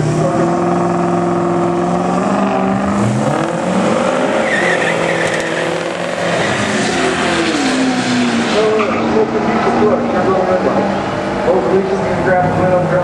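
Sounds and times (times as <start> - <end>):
racing car engines running: 0.0 - 13.0.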